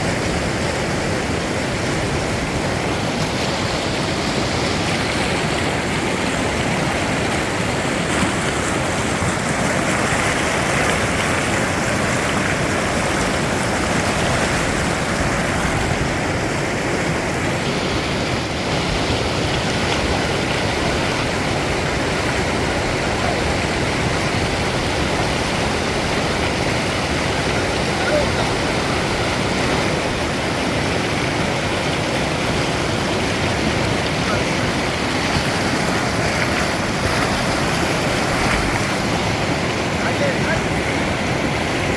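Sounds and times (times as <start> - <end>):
river water rushing through rapids: 0.0 - 41.9.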